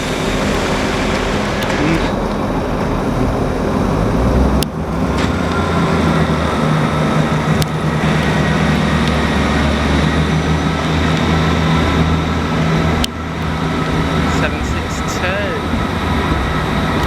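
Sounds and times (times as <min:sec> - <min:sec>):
diesel engines humming: 0:00.0 - 0:17.0.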